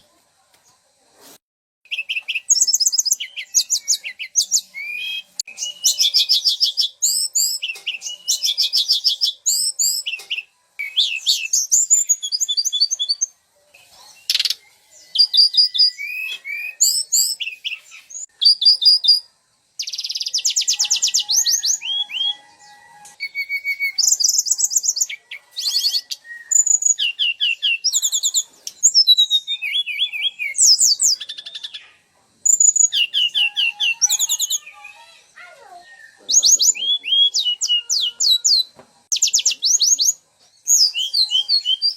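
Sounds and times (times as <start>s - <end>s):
songbirds trilling and whistling: 1.9s - 41.9s.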